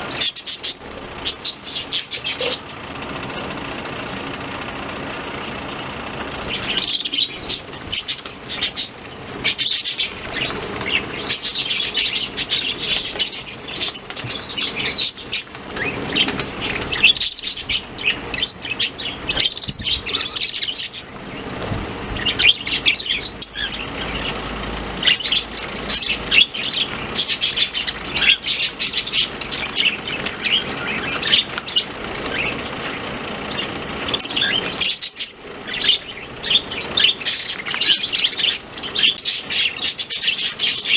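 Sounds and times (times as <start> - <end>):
budgerigars chirping: 0.0 - 3.6, 6.4 - 24.4, 25.0 - 40.9.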